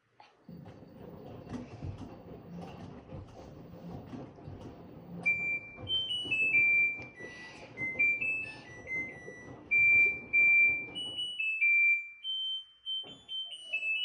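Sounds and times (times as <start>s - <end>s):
washing machine beeping melody: 0.4s - 14.0s.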